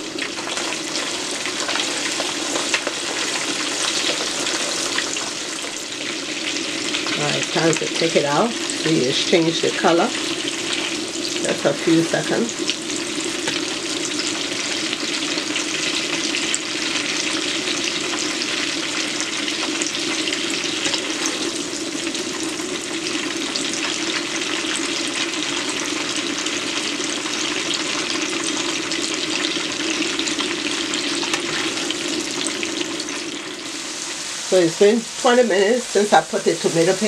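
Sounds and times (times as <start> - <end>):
shrimp deep-frying in oil: 0.0 - 37.0.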